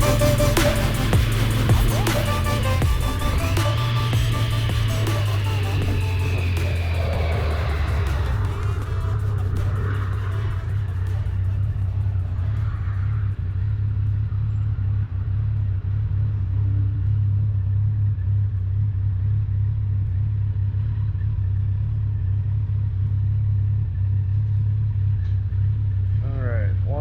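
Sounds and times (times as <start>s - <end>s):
motorcycle cruising drone: 0.0s - 27.0s.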